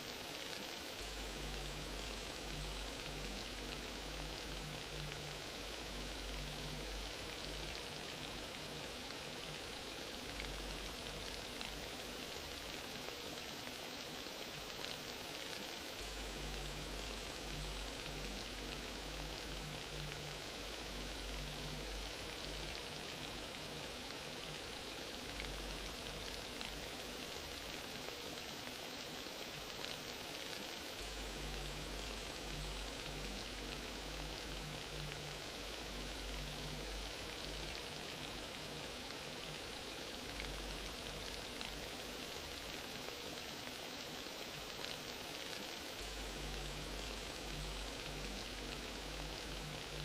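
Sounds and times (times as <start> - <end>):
fireplace fire crackling: 0.0 - 50.0.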